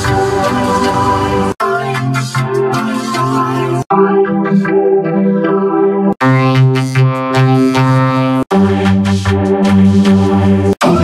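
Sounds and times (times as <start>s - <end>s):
organ-like synthesizer chords: 0.0s - 11.0s.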